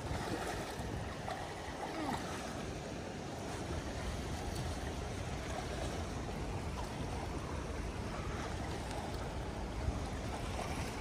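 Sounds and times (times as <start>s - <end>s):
low rumbling wind: 0.0s - 11.0s
river water flowing over rocks: 0.0s - 11.0s.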